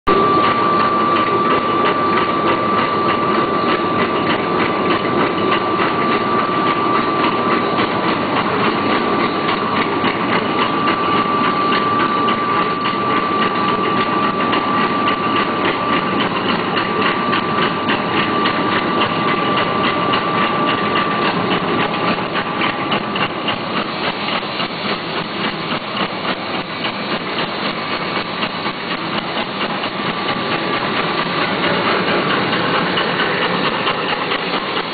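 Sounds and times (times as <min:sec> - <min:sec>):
high steady whine: 0:00.1 - 0:34.9
machine clattering: 0:00.1 - 0:34.9.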